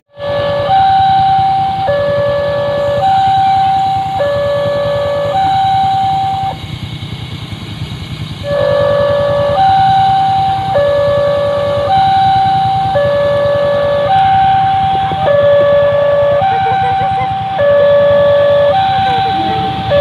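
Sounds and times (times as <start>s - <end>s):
level crossing alarm two-tone: 0.1s - 6.6s, 8.4s - 20.0s
low steady rumble: 0.1s - 20.0s.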